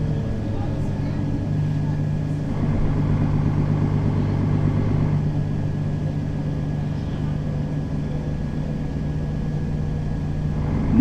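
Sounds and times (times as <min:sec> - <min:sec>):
bus diesel engine droning: 0:00.0 - 0:11.0
road noise: 0:00.0 - 0:11.0.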